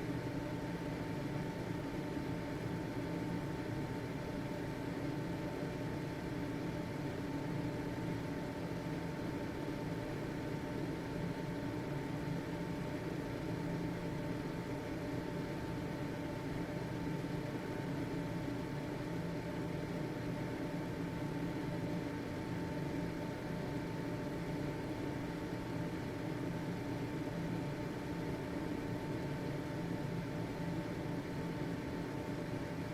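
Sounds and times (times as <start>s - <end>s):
ventilation fan running: 0.0s - 32.9s.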